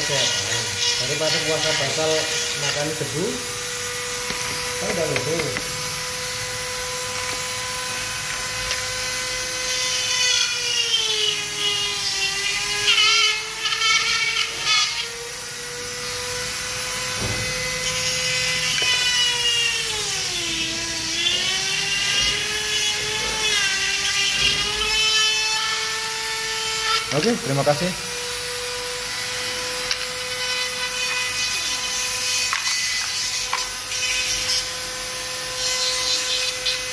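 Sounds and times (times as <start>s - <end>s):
rotary tool whining: 0.0s - 36.9s.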